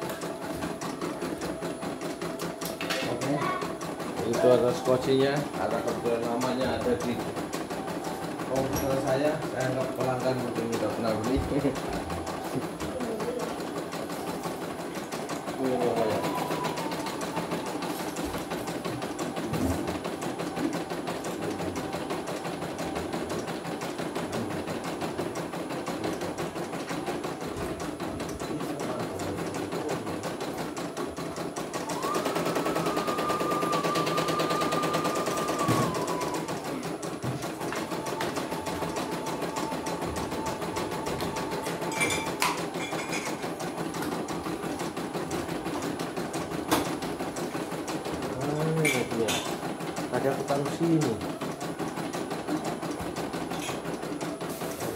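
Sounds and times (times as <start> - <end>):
embroidery machine stitching: 0.0 - 54.9.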